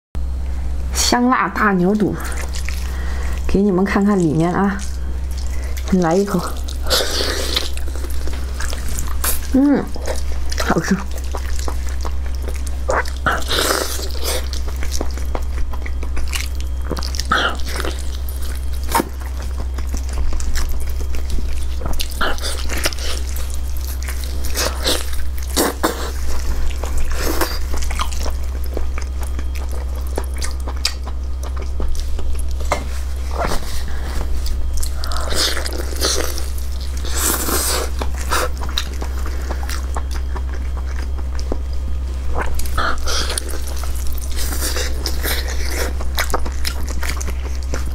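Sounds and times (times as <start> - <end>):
low hum: 0.2 - 47.9
wet chewing and mouth smacks: 2.2 - 3.5, 4.1 - 47.9.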